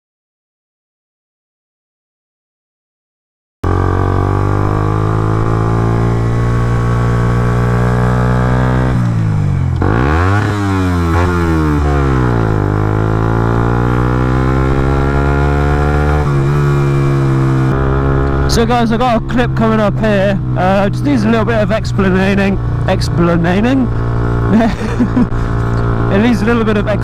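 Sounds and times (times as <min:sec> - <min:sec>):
motorcycle engine running: 0:03.6 - 0:27.0.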